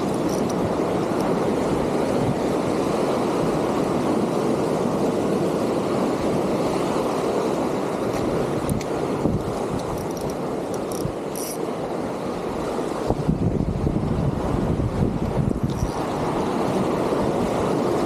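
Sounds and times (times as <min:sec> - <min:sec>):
sea water washing on shore: 0:00.0 - 0:18.0.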